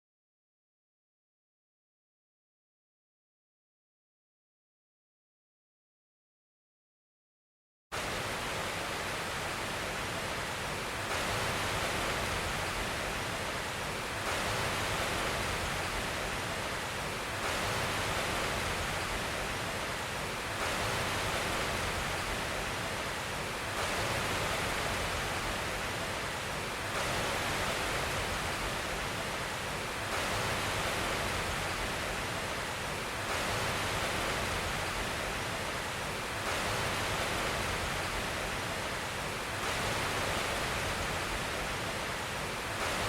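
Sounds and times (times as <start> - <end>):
steady rushing noise: 8.0 - 43.0.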